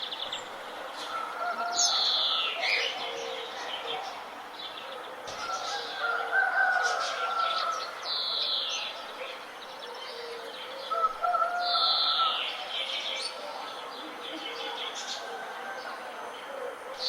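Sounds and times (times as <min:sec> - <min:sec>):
birds singing and calling: 0:00.0 - 0:17.0.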